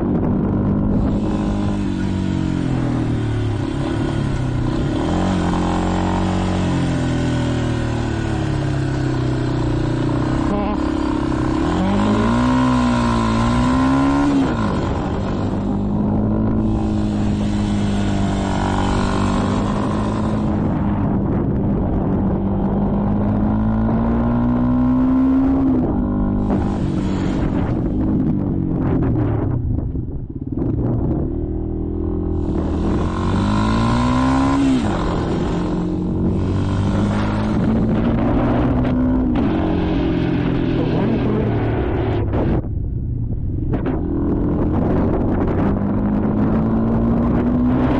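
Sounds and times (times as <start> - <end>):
motorcycle engine revving: 0.0 - 29.6, 30.6 - 42.7, 43.6 - 47.9.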